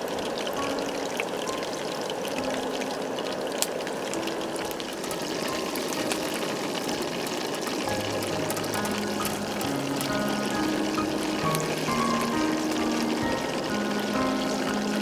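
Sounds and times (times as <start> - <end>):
faint music tones: 0.0 - 15.0
flowing water: 0.0 - 15.0.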